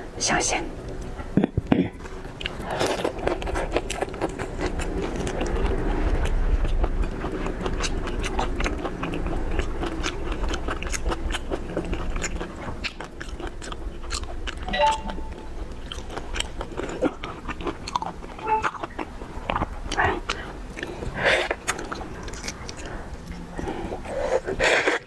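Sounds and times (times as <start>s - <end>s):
chewing and biting shellfish: 1.1s - 25.0s.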